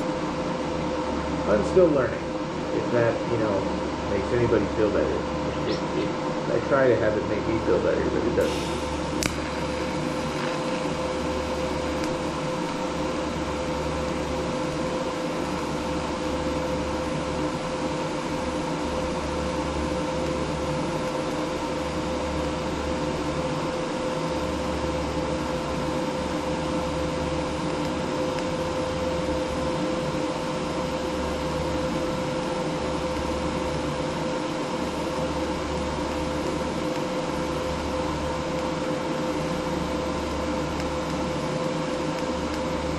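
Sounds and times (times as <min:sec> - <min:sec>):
welder machine hum and fan: 0:00.0 - 0:42.9.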